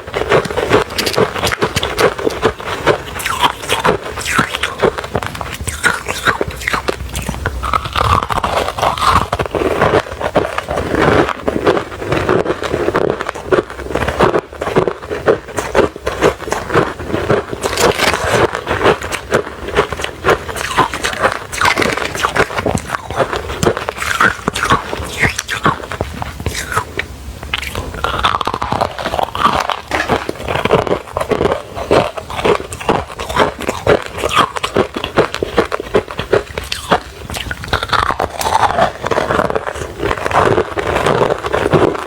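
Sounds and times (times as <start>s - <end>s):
ice being chewed: 0.0s - 42.0s.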